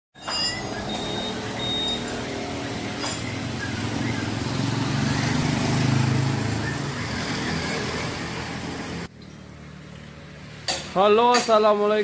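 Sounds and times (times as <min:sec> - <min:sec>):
workshop background noise: 0:00.2 - 0:12.0.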